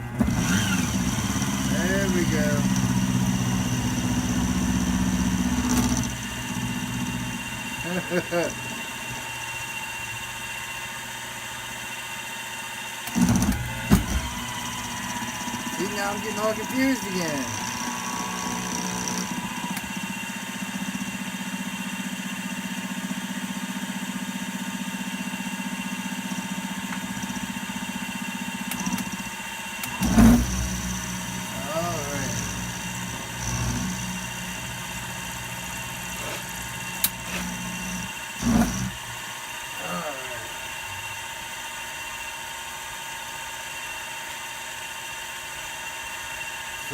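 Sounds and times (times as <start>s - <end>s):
milling machine motor hum: 0.0s - 46.9s.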